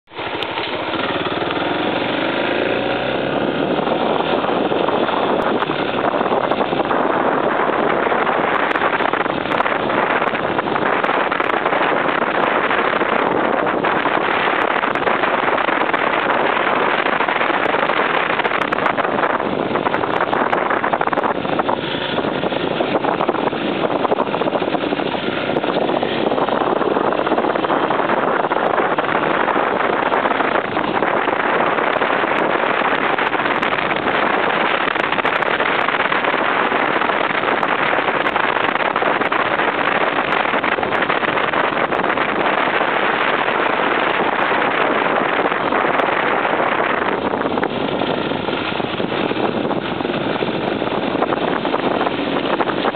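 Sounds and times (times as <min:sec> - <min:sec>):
motorcycle engine: 0:00.0 - 0:52.9
wind rushing over microphone: 0:00.0 - 0:52.9.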